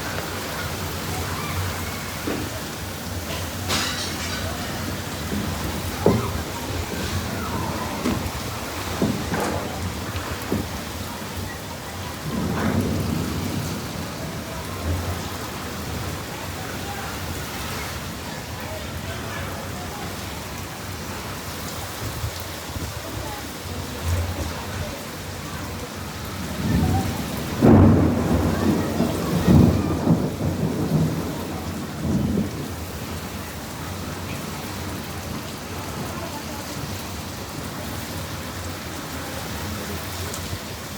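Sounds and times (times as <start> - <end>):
thunder rumbling: 0.0 - 23.3, 24.0 - 40.9
heavy rain pouring: 0.0 - 40.9.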